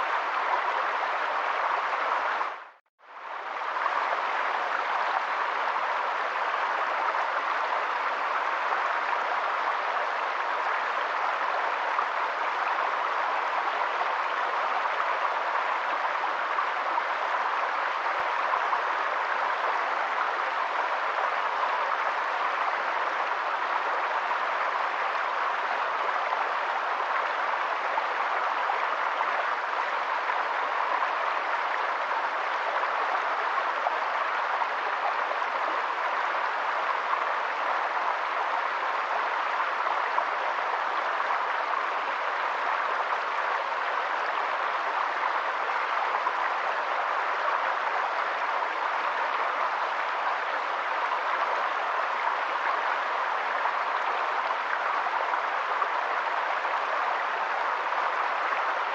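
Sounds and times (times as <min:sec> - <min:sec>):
running water rushing: 0:00.0 - 0:58.9.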